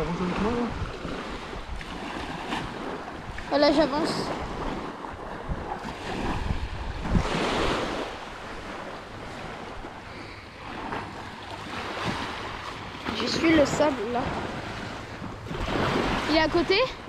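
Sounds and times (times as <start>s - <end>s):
waves washing onto beach: 0.0s - 17.0s
wind rumbling on microphone: 0.0s - 17.0s.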